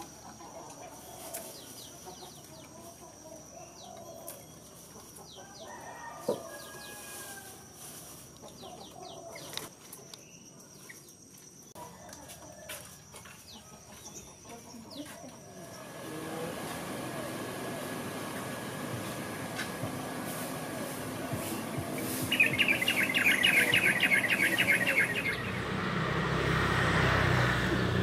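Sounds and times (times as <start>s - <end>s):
chickens clucking: 0.0s - 7.1s, 7.8s - 10.2s, 11.8s - 16.6s, 17.4s - 25.8s.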